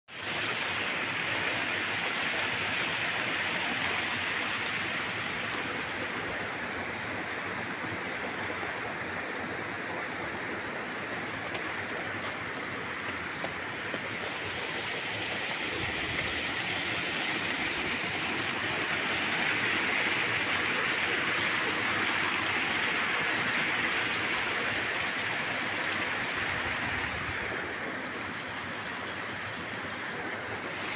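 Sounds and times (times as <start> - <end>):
water rushing through concrete channels: 0.1 - 30.9.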